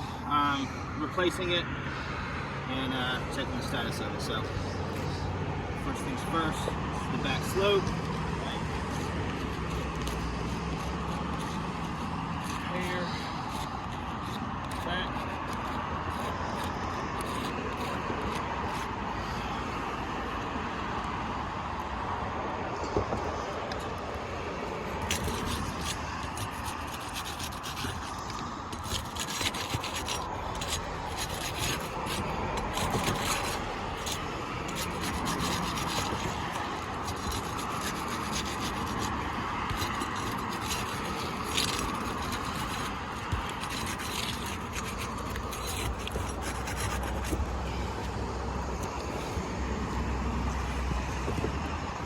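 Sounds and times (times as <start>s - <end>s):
shingles rubbing and scraping: 2.8s - 22.0s, 22.7s - 52.0s.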